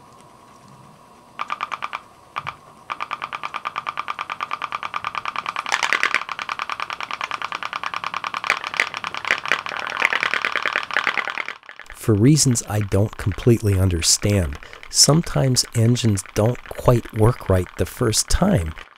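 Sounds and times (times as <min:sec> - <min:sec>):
pop-pop steam engine popping: 0:01.4 - 0:18.9.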